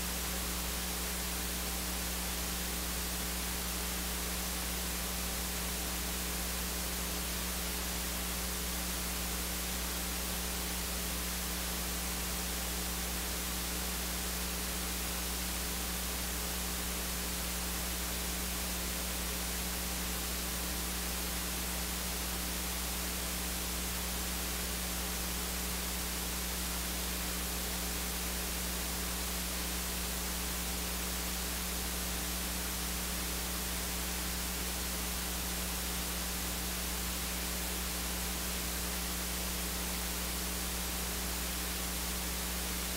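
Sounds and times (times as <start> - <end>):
low mains hum: 0.0 - 42.9.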